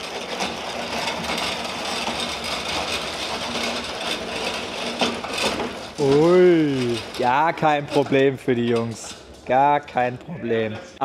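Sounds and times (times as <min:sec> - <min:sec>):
pallet jack wheels rattling on asphalt: 0:00.0 - 0:10.2.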